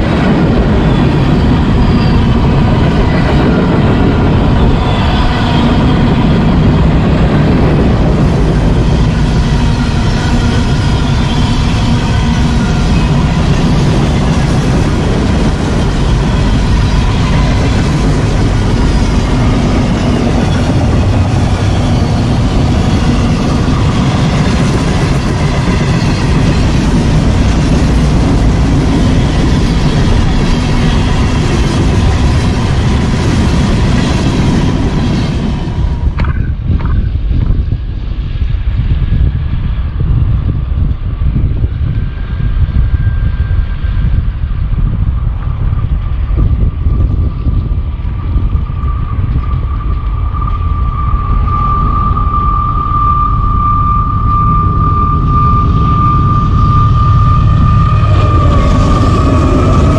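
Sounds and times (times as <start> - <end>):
dull rumble: 0.0 - 59.9
train wheels rattling on rails: 0.0 - 59.9
thin whine: 0.8 - 59.9.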